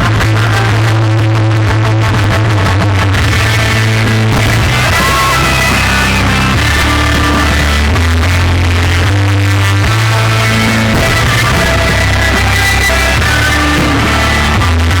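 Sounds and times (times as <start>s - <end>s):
heavy bass line: 0.0s - 15.0s
loud rock music: 0.0s - 15.0s.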